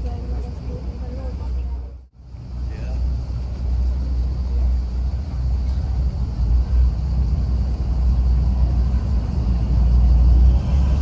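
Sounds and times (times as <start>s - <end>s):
boat engine drone: 0.0s - 11.0s
wind and water hiss: 0.0s - 11.0s.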